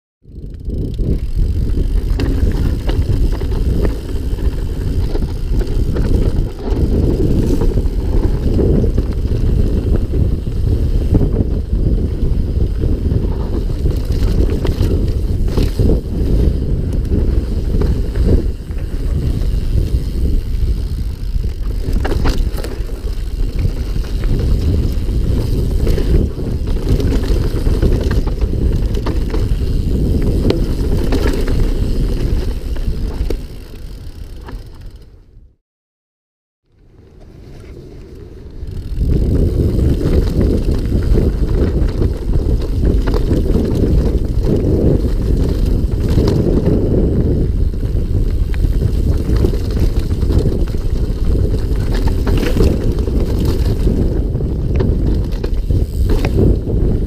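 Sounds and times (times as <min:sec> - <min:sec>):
wind buffeting microphone: 0:00.2 - 0:35.0, 0:37.3 - 0:57.0
bike knocking and rattling: 0:00.2 - 0:35.4, 0:36.8 - 0:57.0
tyres running over dirt and rock: 0:00.3 - 0:35.0, 0:38.7 - 0:56.8.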